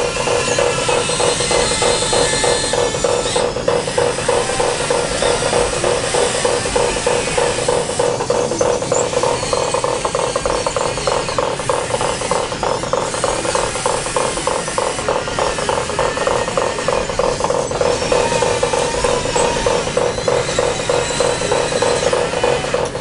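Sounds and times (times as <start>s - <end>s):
electric gear motors whining: 0.0s - 23.0s
gearing clicking: 0.0s - 23.0s.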